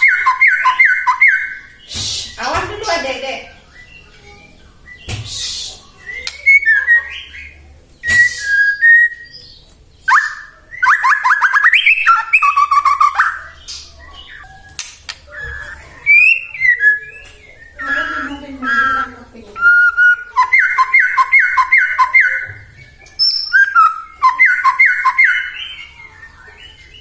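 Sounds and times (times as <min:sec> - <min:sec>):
bird singing whistled phrases: 0:00.0 - 0:02.4, 0:03.4 - 0:27.0.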